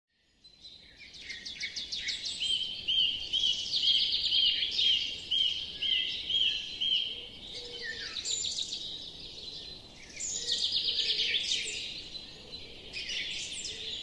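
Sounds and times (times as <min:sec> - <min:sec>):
birds trilling rapidly: 0:00.5 - 0:14.0.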